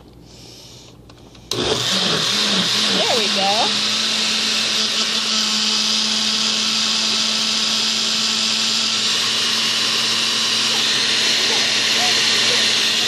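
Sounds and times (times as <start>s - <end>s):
blender whirring: 1.5s - 13.0s.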